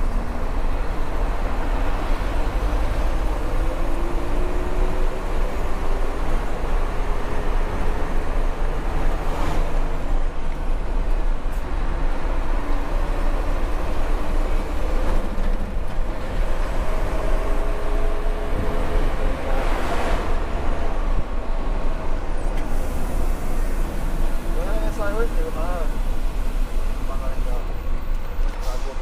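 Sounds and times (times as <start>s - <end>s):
road noise: 0.0s - 29.0s.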